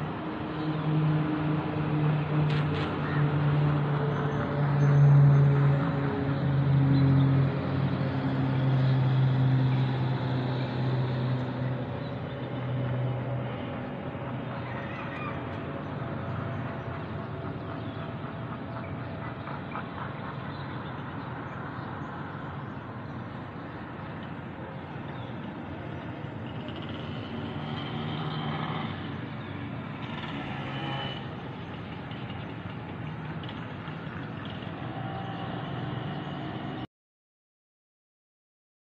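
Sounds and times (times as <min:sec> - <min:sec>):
distant road traffic hum: 0:00.0 - 0:36.9.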